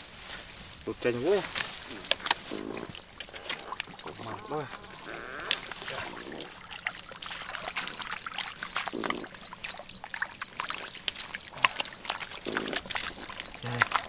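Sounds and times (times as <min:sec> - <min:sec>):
fish flopping and splashing: 0:01.3 - 0:14.0.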